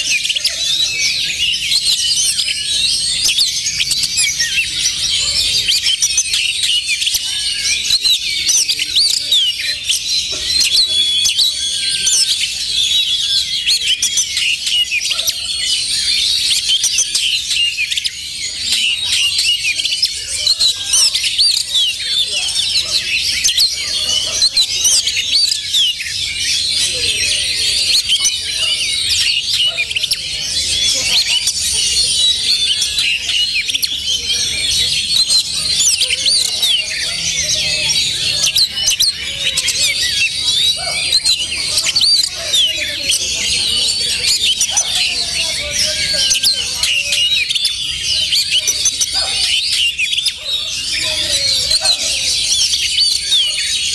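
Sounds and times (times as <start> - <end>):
birds singing in chorus: 0.0 - 53.9.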